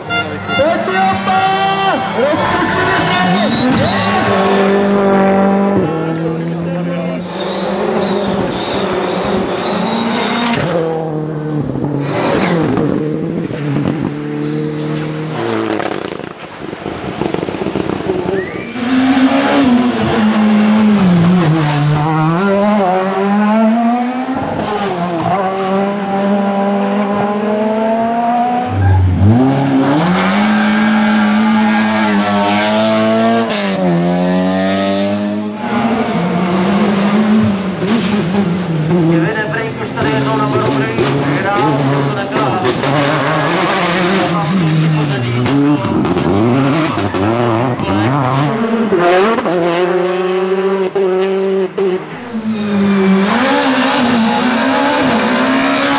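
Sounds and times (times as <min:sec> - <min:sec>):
rally cars at full throttle: 0:00.0 - 0:55.9.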